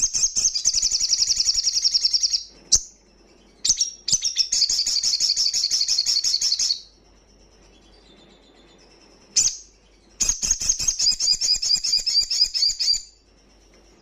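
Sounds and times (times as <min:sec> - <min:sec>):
bird singing high trills: 0:00.0 - 0:14.0
sharp bird chirps: 0:00.0 - 0:14.0.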